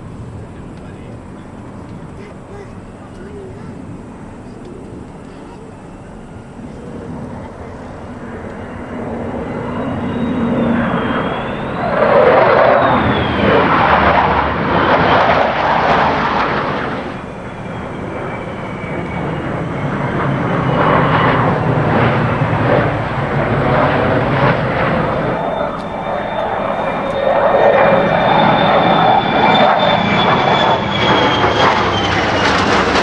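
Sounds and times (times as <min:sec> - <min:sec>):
jet fighter engine roar: 0:00.0 - 0:33.0.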